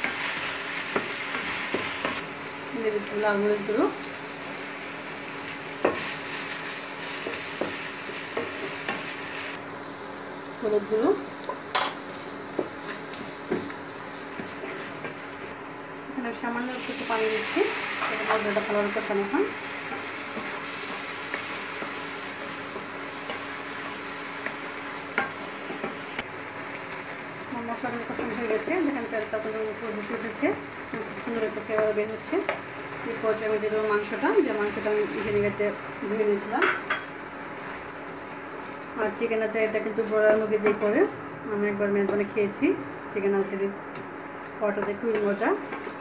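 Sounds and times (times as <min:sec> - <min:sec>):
garlic and onion sizzling in oil: 0:00.0 - 0:46.0.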